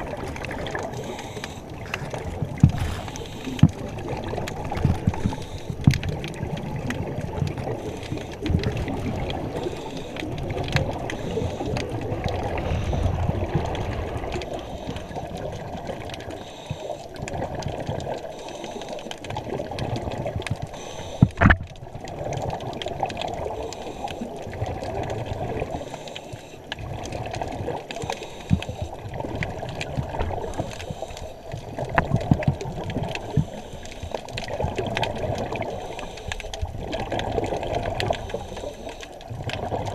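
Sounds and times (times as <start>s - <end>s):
underwater rushing and sloshing: 0.0s - 39.9s.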